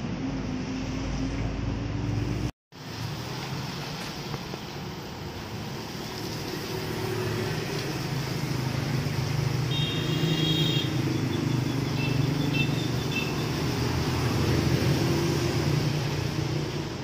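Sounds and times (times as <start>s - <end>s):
rain on wet pavement: 2.8s - 17.0s.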